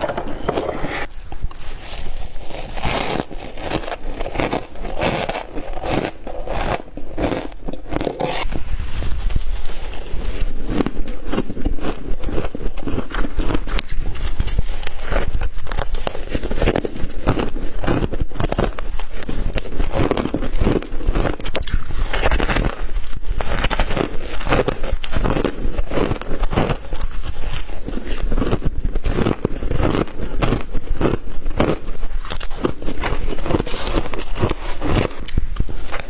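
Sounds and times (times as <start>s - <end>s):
person chewing frost crunching: 0.0s - 8.5s, 9.6s - 36.0s.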